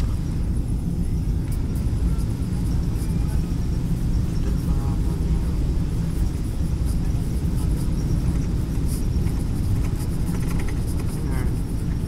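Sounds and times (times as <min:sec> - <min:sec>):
jet engines rumbling: 0:00.0 - 0:12.0
rushing air: 0:00.0 - 0:12.0.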